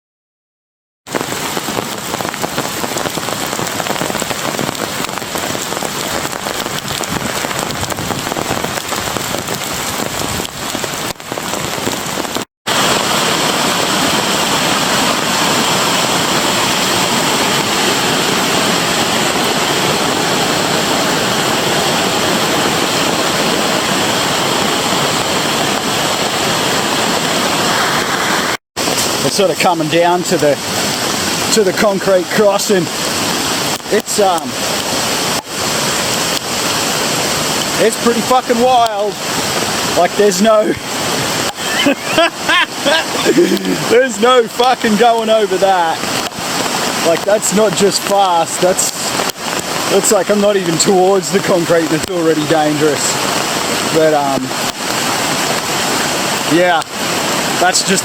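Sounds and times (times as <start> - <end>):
heavy rain and rushing runoff: 1.1 - 58.0.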